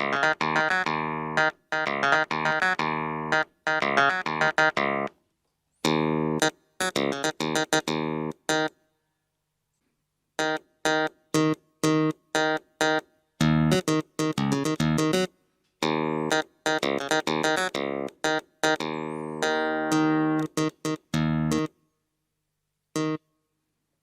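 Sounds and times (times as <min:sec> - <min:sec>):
electronic keyboard clavinet notes: 0:00.0 - 0:05.1, 0:05.8 - 0:08.8, 0:10.4 - 0:21.7.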